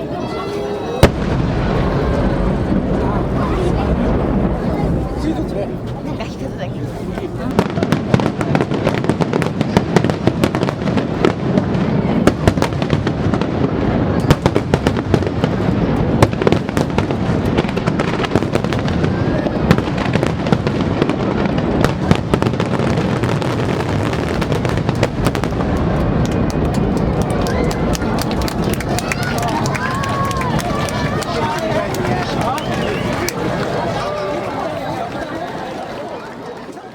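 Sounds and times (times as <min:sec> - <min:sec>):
fireworks booming and crackling: 0:00.0 - 0:36.4.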